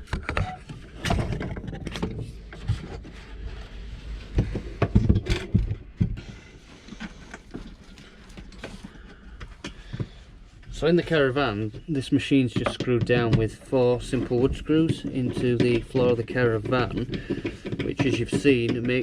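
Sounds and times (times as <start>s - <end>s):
metal heater knocking and scraping: 0.0s - 19.0s.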